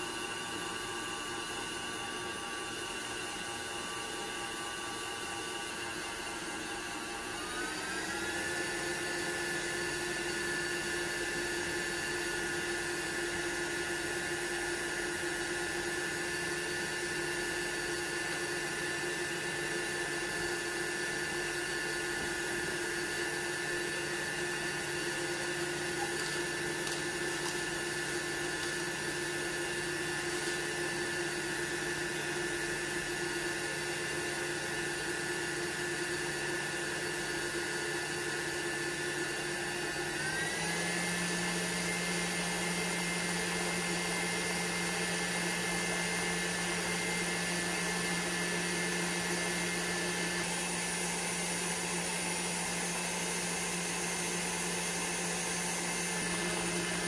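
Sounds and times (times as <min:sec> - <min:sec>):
stand mixer motor running: 0:00.0 - 0:57.0.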